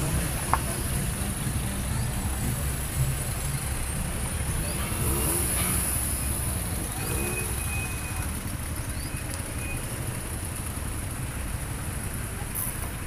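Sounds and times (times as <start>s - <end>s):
cars rolling past rumbling: 0.0s - 13.0s.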